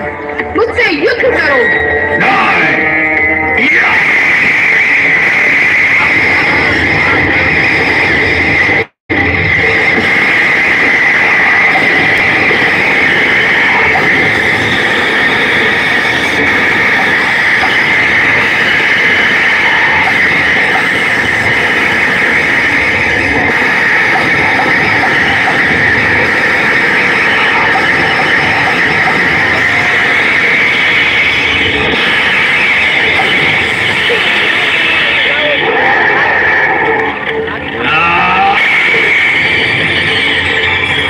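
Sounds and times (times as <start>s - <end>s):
distorted loudspeaker noise: 0.0s - 41.0s.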